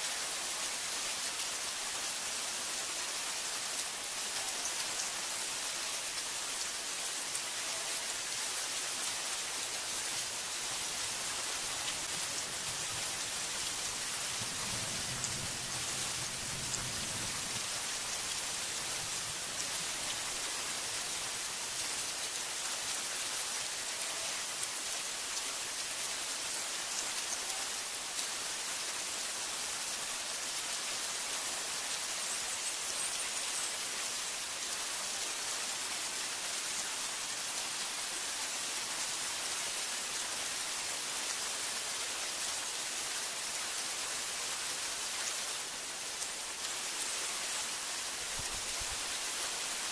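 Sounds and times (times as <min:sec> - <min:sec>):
heavy rain on foliage: 0:00.0 - 0:49.9.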